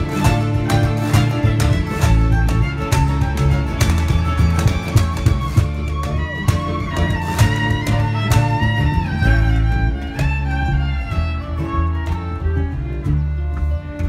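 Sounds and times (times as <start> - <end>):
fiddle melody: 0.0 - 14.0
strummed acoustic guitar: 0.0 - 14.0.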